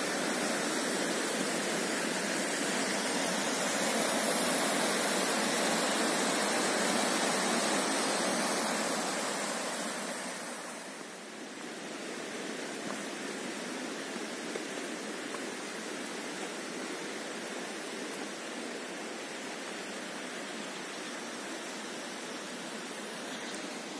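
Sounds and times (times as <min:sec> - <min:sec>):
creek cascading over rocks: 0:00.0 - 0:23.9.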